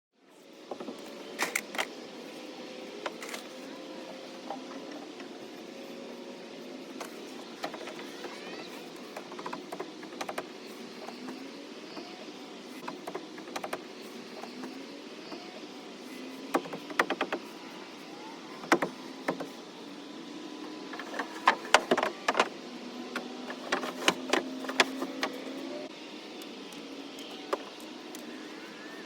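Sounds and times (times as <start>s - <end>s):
small electric motor hum: 0.4s - 29.0s.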